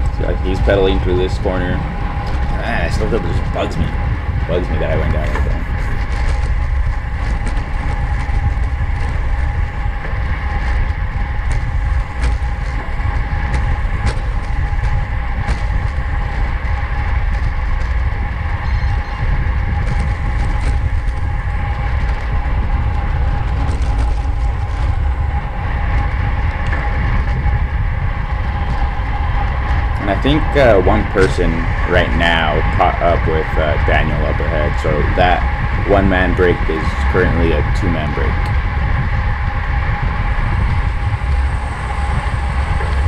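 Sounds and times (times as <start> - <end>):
bicycle tyres and drivetrain whir: 0.0 - 43.0
wind rushing over microphone: 0.0 - 43.0.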